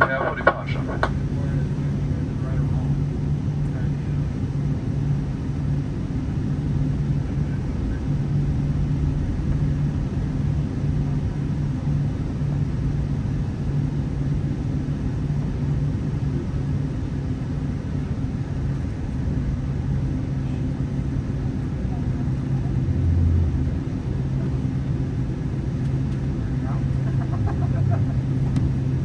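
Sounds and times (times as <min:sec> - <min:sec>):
aircraft cabin hum and rumble: 0:00.0 - 0:29.0.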